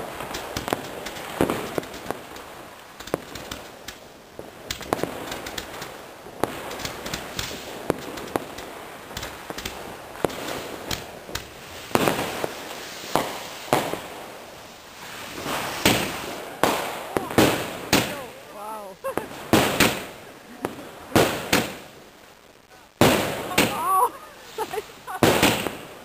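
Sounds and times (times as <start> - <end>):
firecracker pops: 0.0 - 14.1, 15.4 - 18.3, 19.1 - 21.9, 23.0 - 24.0, 24.6 - 26.0
fireworks bangs: 0.0 - 26.0
rockets going up: 0.0 - 26.0.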